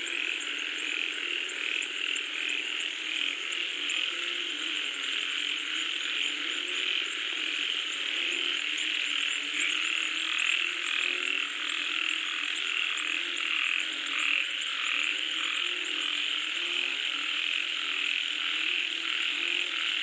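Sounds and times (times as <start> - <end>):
frogs calling: 0.0 - 20.0.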